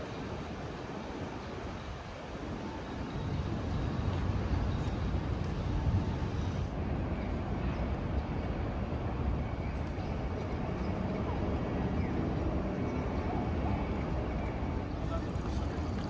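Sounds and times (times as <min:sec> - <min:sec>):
faint voices of passers-by: 0:02.4 - 0:16.0.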